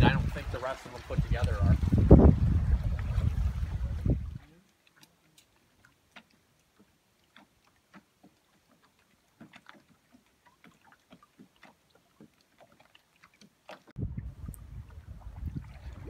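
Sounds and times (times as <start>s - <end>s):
ripples lapping at the shore: 0.0s - 16.0s.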